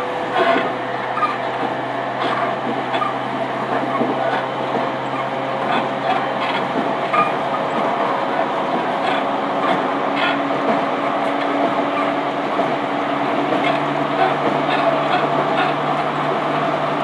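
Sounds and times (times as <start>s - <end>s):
motor and inverter hum: 0.0s - 17.0s
train wheels rumbling on rail: 0.0s - 17.0s.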